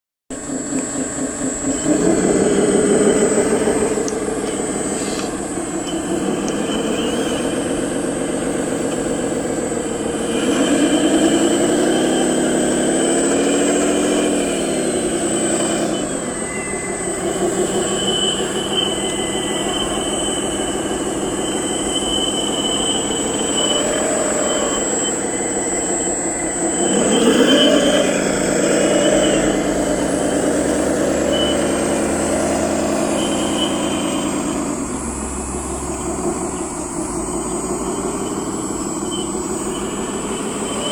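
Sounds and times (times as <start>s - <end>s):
model motors and pump whining: 0.3s - 40.9s.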